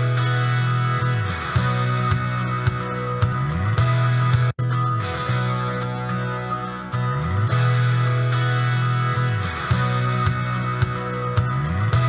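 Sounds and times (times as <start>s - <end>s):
guitar music: 0.0s - 12.0s
low bass line: 0.0s - 12.0s.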